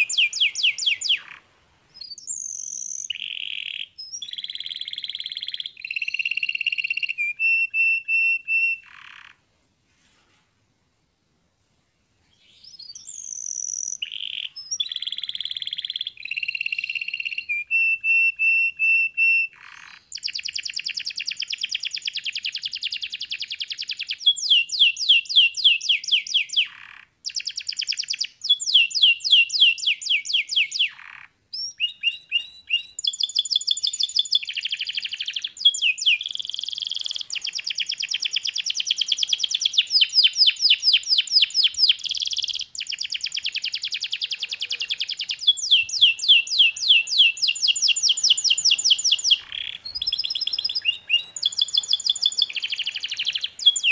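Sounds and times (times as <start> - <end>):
canary singing trills: 0.0 - 9.4, 12.4 - 53.9.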